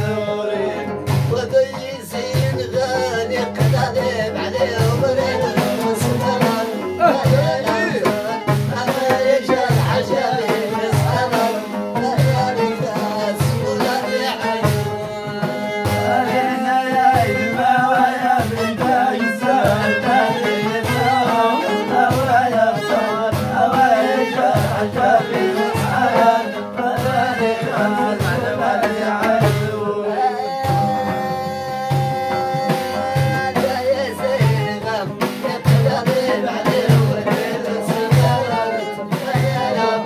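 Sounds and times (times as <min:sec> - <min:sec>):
lute melody: 0:00.0 - 0:35.5
bowed violin: 0:00.0 - 0:40.0
hand drum beating: 0:00.0 - 0:40.0
man singing: 0:00.0 - 0:40.0.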